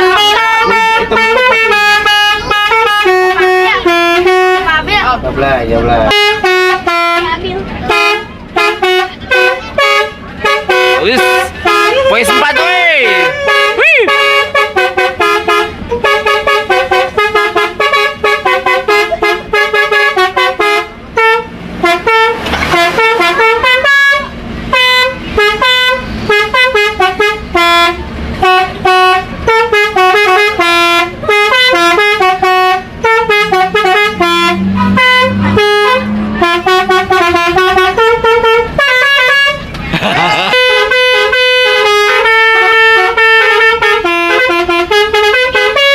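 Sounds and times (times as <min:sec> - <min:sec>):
musical air horn playing tune: 0:00.0 - 0:04.7, 0:06.1 - 0:39.7, 0:40.5 - 0:45.9.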